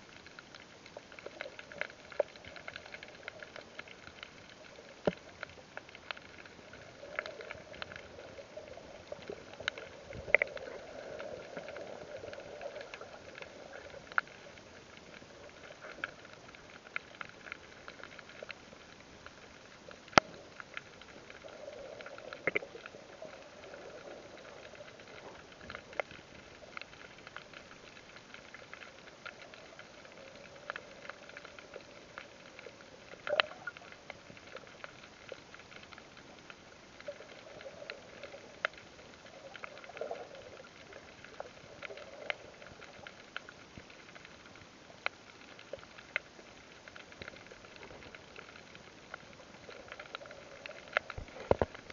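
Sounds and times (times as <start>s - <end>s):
muffled underwater hiss: 0.0s - 51.9s
sharp underwater clicks and crackles: 0.0s - 51.9s.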